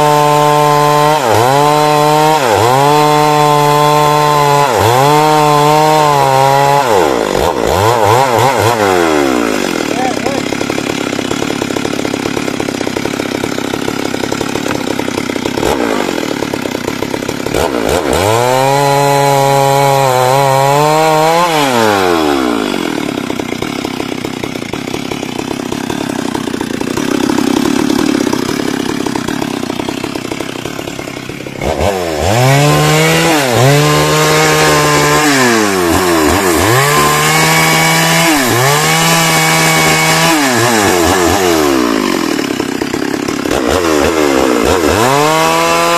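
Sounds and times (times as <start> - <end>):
chainsaw cutting into tree: 0.0 - 45.9.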